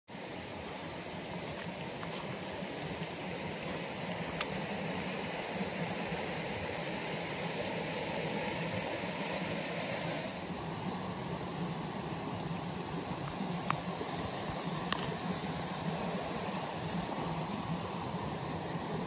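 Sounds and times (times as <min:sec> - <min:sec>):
fast-flowing stream rushing: 0:00.1 - 0:19.0.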